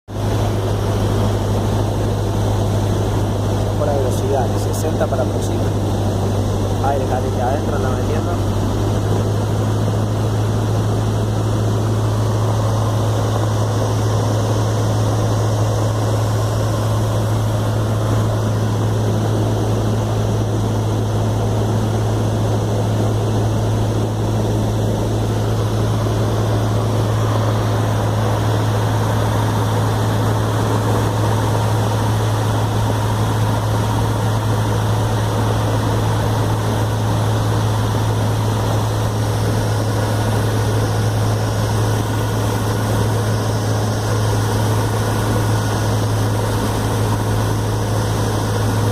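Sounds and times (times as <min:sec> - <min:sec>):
small plane engine droning: 0:00.1 - 0:48.9.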